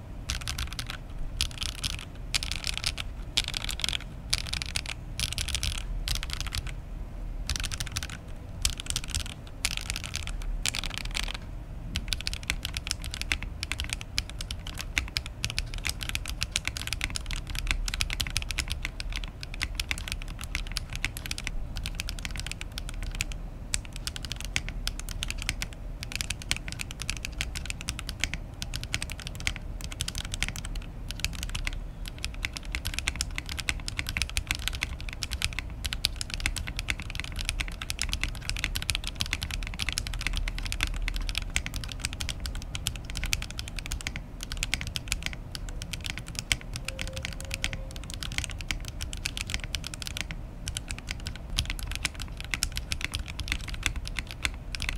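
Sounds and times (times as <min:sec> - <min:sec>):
mechanical keyboard typing: 0:00.0 - 0:06.8, 0:07.5 - 0:54.9.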